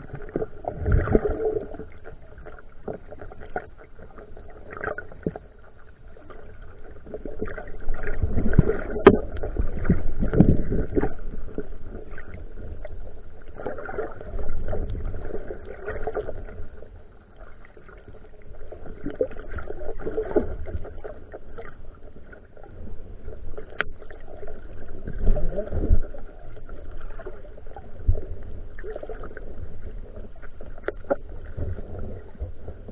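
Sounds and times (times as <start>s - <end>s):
muffled water sloshing underwater: 0.0s - 32.9s.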